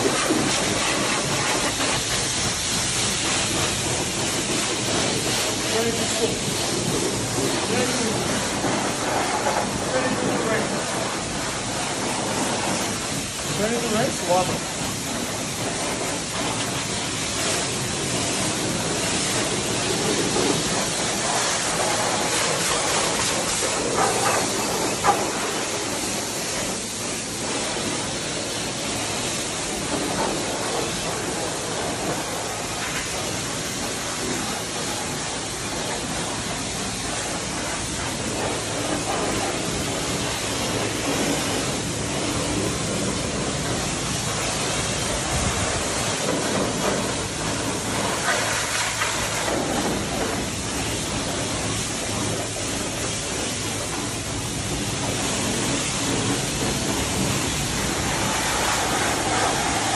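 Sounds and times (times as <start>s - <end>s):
pressure washer spraying water: 0.0s - 59.9s.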